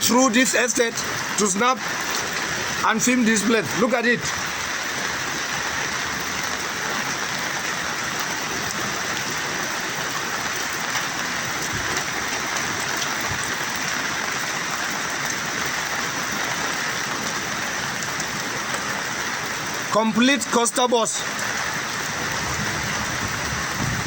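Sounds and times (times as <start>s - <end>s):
flood water hissing: 0.2s - 24.0s.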